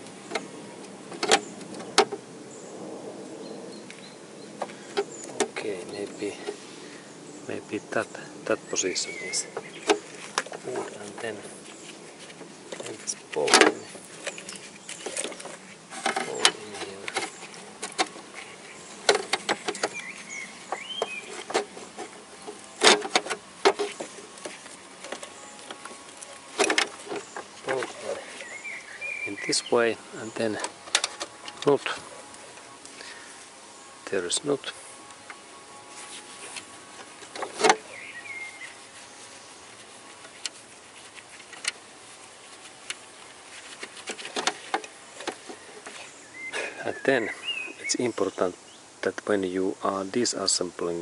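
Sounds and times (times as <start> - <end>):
bird chirping: 0.0 - 40.5, 44.3 - 49.0
rustling: 0.0 - 48.4.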